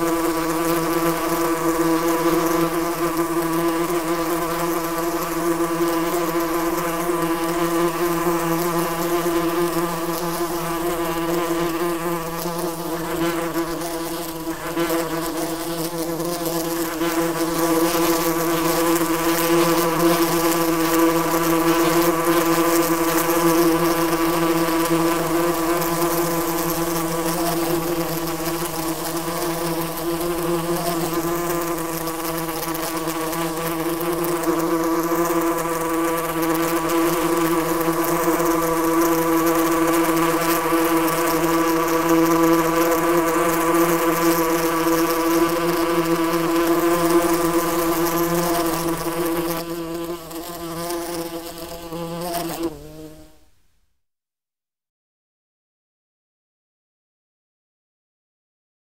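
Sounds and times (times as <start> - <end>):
wasps buzzing: 0.0 - 53.1.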